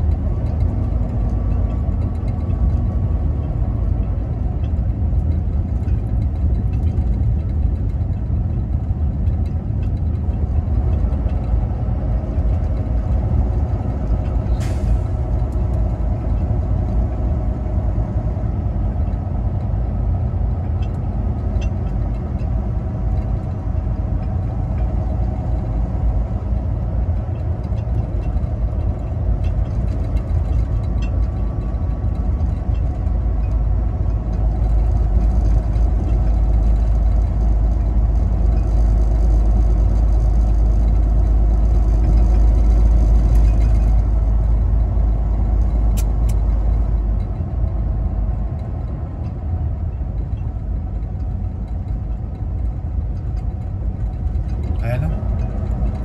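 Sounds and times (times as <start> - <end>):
truck engine and tyre drone: 0.0 - 56.0.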